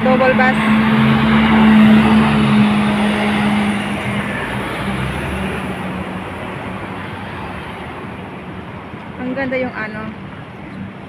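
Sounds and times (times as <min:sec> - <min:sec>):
bus engine humming: 0:00.0 - 0:11.0
road noise: 0:00.0 - 0:11.0.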